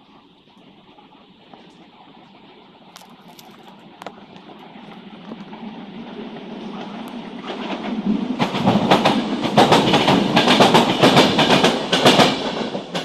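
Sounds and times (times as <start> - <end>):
train wheels clattering: 0.0 - 13.0.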